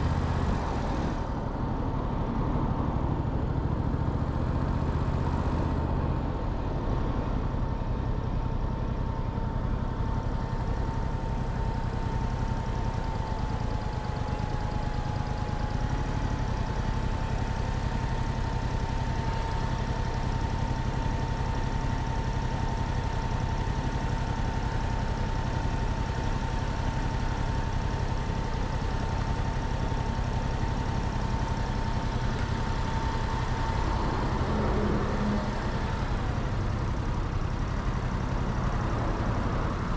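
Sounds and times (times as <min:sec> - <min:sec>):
motorcycle engine running: 0:03.2 - 0:39.9.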